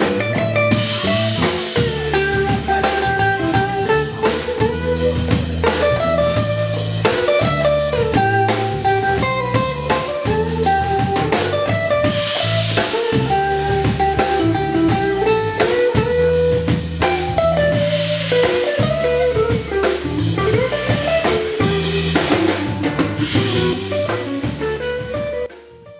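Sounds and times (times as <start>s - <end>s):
band music with guitar and drums: 0.0s - 25.9s.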